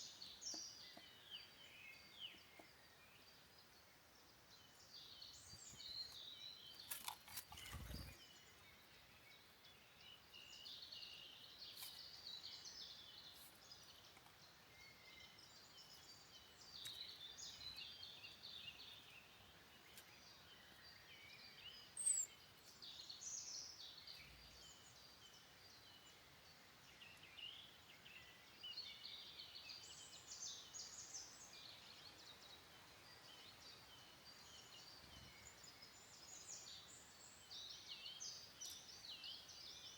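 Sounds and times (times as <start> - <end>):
faint birds singing: 0.0 - 39.9.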